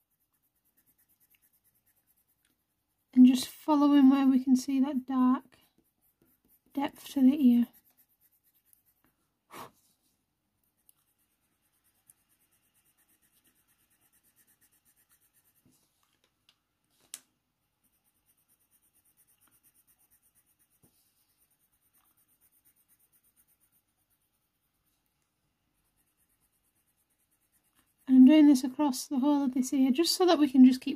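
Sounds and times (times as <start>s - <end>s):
pencil scratching on paper: 0.0s - 9.8s, 10.7s - 15.9s, 17.8s - 30.9s.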